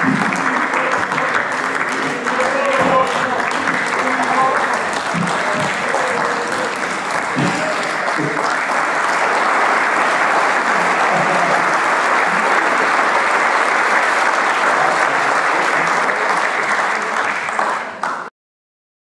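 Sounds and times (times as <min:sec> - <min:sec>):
audience applauding: 0:00.0 - 0:18.3.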